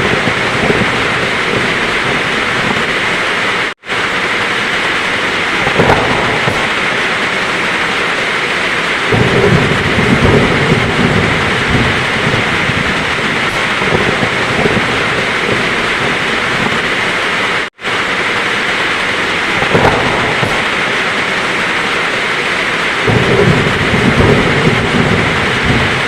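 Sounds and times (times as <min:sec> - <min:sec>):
heavy rain: 0:00.0 - 0:26.0
thunder rumbling: 0:00.0 - 0:26.0.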